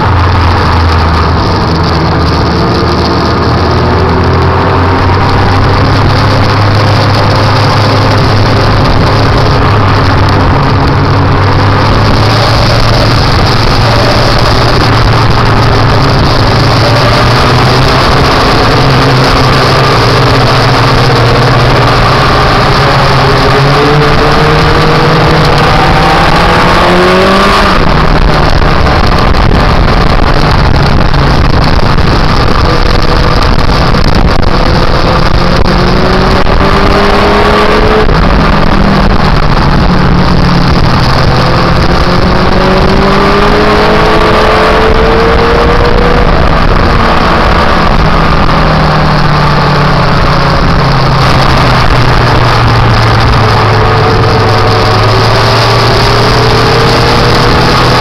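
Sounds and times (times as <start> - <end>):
motorcycle engine accelerating: 0.0 - 58.0
wind noise on microphone: 0.0 - 58.0.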